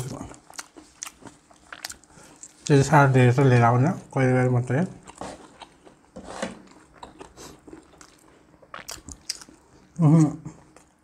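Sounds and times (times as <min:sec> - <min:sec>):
people chewing food: 0:00.0 - 0:02.8, 0:05.0 - 0:11.0.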